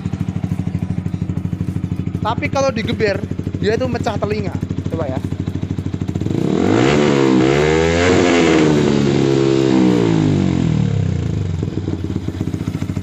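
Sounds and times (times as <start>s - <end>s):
motorcycle engine idling: 0.0s - 13.0s
motorcycle engine revving: 0.0s - 13.0s.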